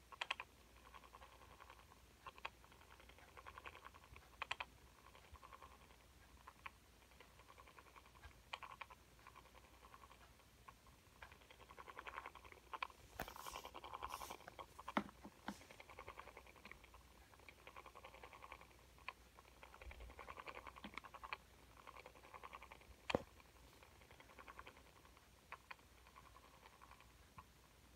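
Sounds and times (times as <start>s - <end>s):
toy mechanism whirring and ticking: 0.0s - 27.9s.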